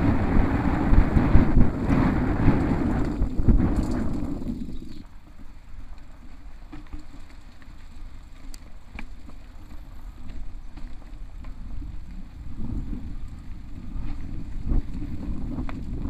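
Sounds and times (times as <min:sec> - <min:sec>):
wind on microphone: 0:00.0 - 0:07.0, 0:08.0 - 0:16.0
bike clicks and rattles: 0:00.0 - 0:16.0
rumble of bike tyres on dirt: 0:00.0 - 0:16.0.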